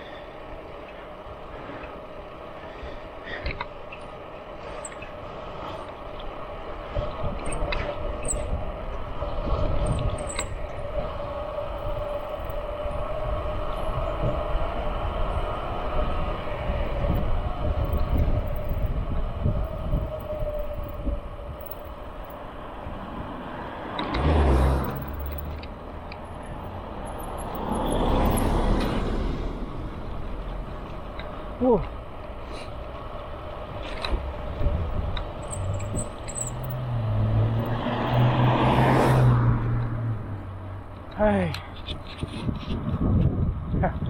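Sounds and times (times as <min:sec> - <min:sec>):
traffic rumble: 0:00.0 - 0:44.0
vehicles passing: 0:00.0 - 0:44.0
wind noise: 0:04.7 - 0:44.0.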